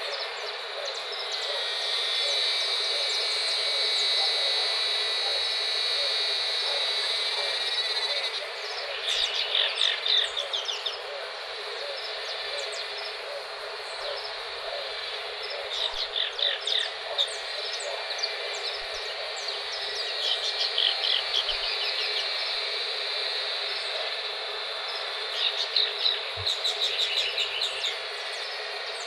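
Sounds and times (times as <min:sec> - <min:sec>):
birds chirping: 0:00.0 - 0:29.0
outdoor ambience hiss: 0:00.0 - 0:29.0.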